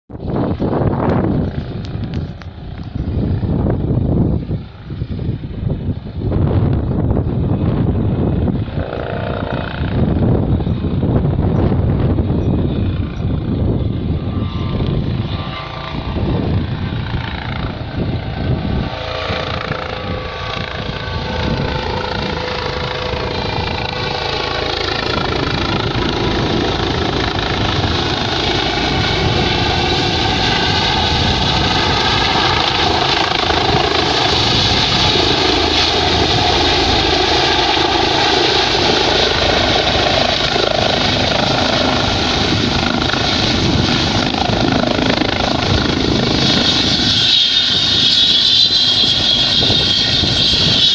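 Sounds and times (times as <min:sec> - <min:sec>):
helicopter rotor and turbine whine: 0:00.1 - 0:50.9.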